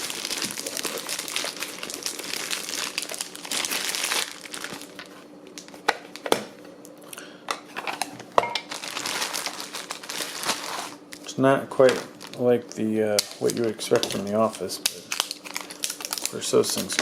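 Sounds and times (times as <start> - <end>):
packaging crinkling and rustling: 0.0 - 6.4, 8.6 - 17.0.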